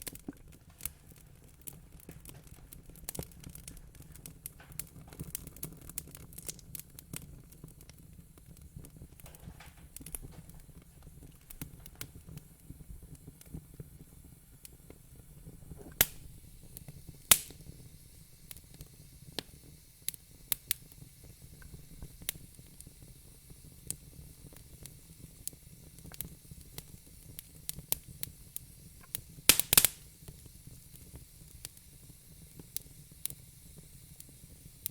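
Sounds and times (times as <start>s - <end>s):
burning logs crackling and popping: 0.0s - 34.9s.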